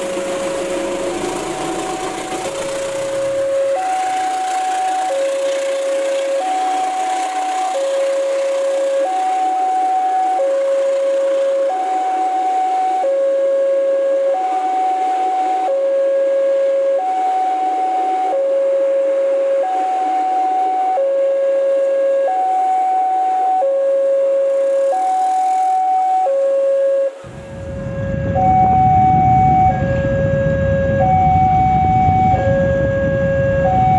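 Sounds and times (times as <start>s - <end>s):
two-tone level crossing alarm: 0.0s - 27.2s, 28.0s - 33.9s.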